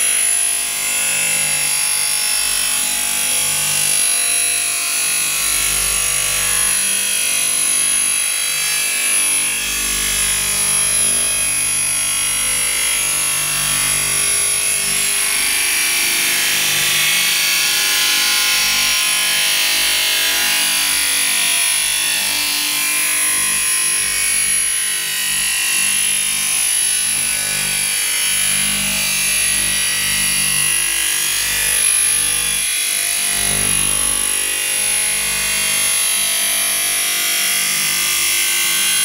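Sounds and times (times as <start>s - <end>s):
cutter grinding through steel: 0.0s - 39.0s.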